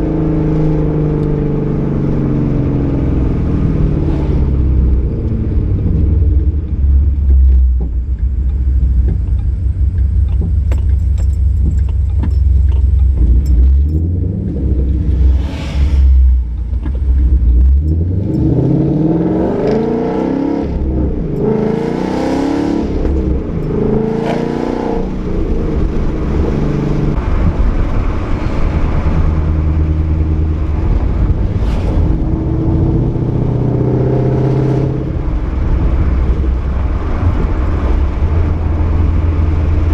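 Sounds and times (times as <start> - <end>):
car engine rumbling and accelerating: 0.0 - 39.9.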